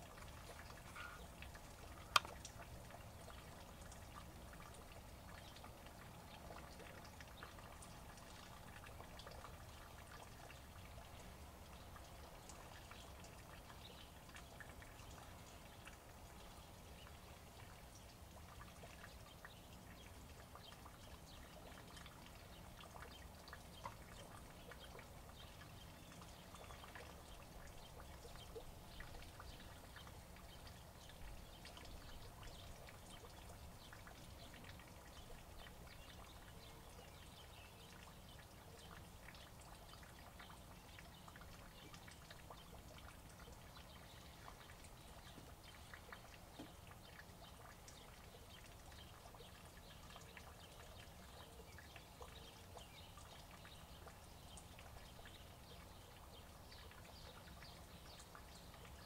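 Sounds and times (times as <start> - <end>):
faint steady rain: 0.0 - 59.0
scattered water drips: 0.0 - 59.0.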